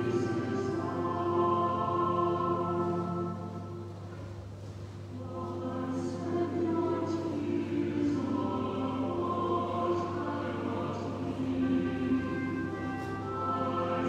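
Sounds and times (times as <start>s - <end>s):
choir singing a hymn: 0.0s - 3.9s, 5.1s - 14.0s.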